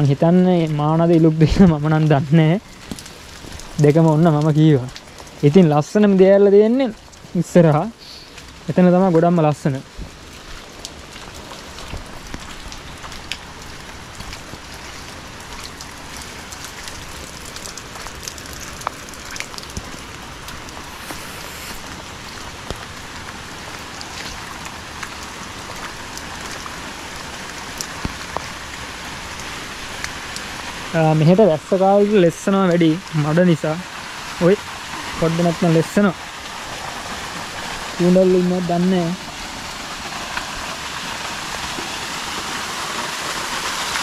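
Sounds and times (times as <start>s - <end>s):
rain drops pattering: 0.0s - 44.0s.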